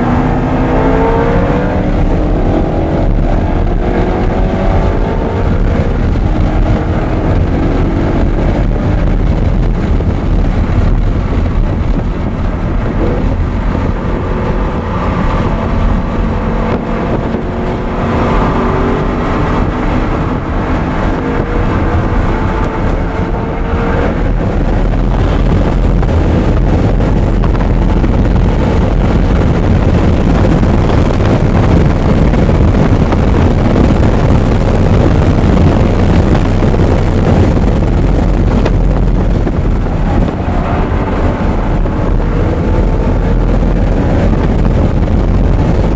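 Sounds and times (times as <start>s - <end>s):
car engine revving through gears: 0.0s - 45.9s
wind and road rush: 0.0s - 45.9s.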